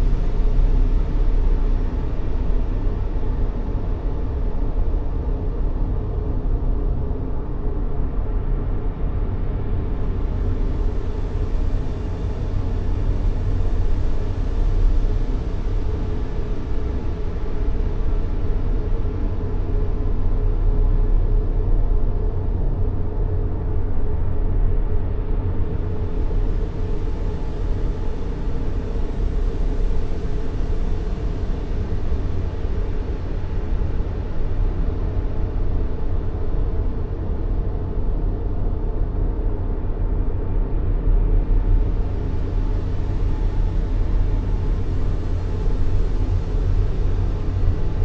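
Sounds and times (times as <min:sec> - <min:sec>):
deep white noise hiss: 0:00.0 - 0:48.0.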